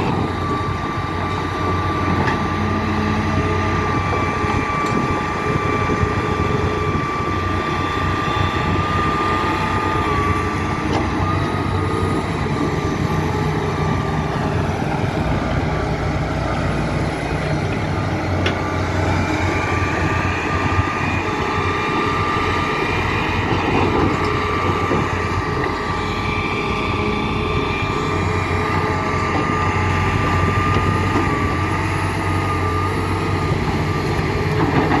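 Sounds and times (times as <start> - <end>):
excavator diesel engine humming: 0.0 - 35.0.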